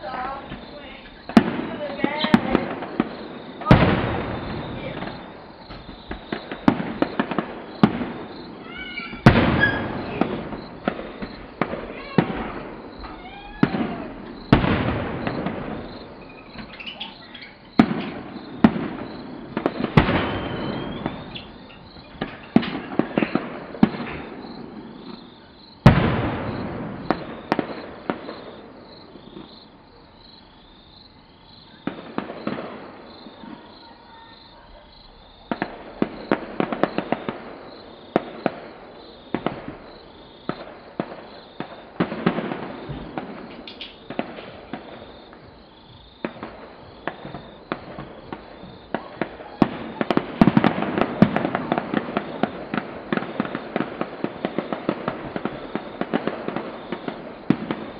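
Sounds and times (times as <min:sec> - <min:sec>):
small firework pops: 0:00.0 - 0:30.4, 0:31.6 - 0:57.9
fireworks bangs echoing: 0:00.0 - 0:57.9.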